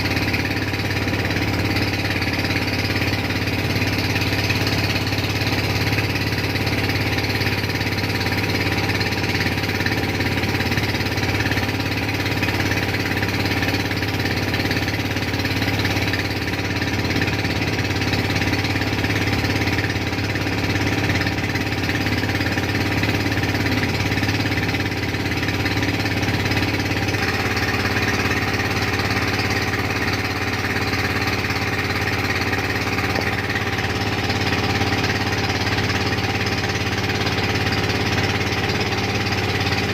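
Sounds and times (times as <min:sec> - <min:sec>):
boat engine knocking: 0:00.0 - 0:39.9.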